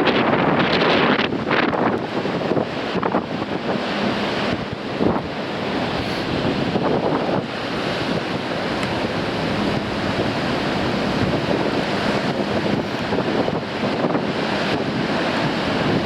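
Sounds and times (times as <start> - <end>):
surf breaking on rocks: 0.0 - 16.0
wind buffeting microphone: 0.0 - 16.0.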